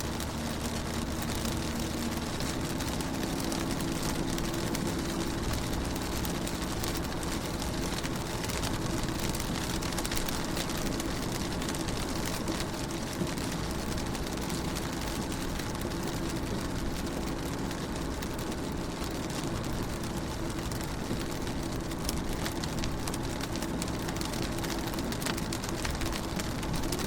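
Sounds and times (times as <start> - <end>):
rain on a car: 0.0 - 27.0.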